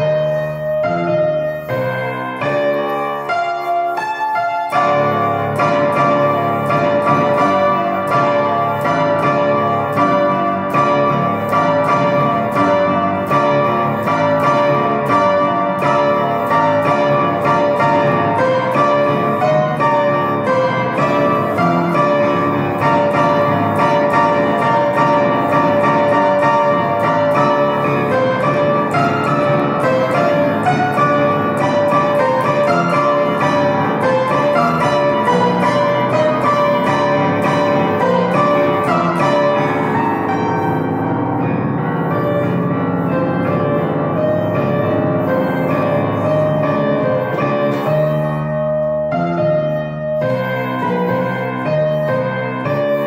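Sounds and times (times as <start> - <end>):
instrumental keyboard music: 0.0 - 53.0.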